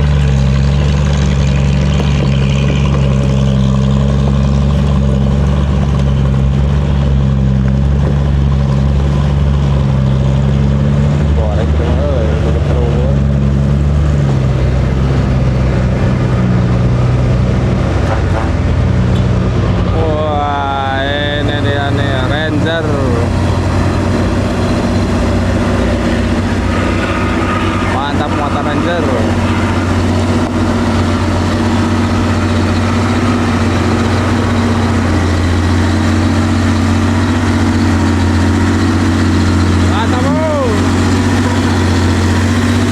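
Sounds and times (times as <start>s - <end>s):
heavy truck engine revving: 0.0s - 42.9s.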